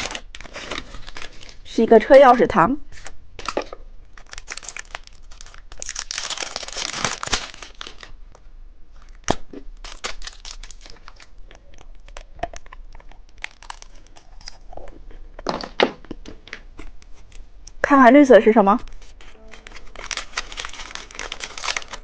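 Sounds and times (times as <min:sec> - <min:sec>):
plastic wrapper crinkling: 0:00.0 - 0:01.8, 0:02.9 - 0:17.4, 0:18.8 - 0:22.0.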